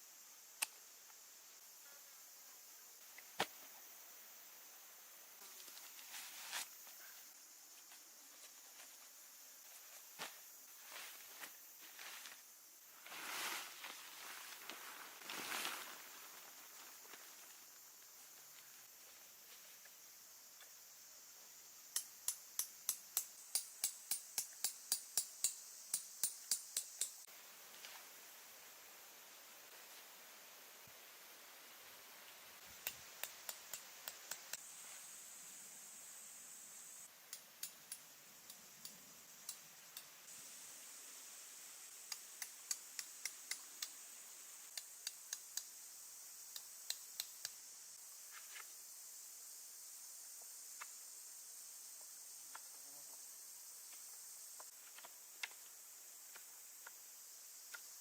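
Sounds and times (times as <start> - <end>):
faint hiss: 0.0 - 58.0.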